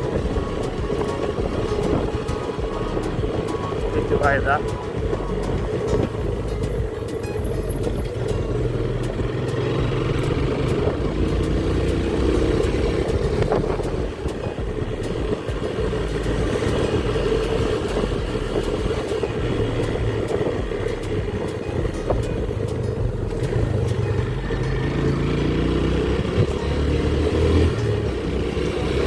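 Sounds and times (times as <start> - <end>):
road and wind noise: 0.0 - 29.0
small motorcycle engine running: 0.0 - 29.0.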